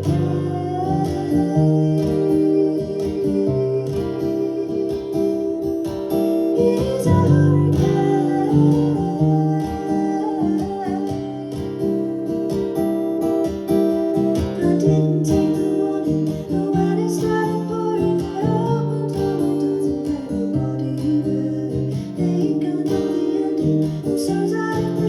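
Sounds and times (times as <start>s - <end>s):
acoustic guitar playing: 0.0s - 25.0s
woman singing: 0.0s - 25.0s.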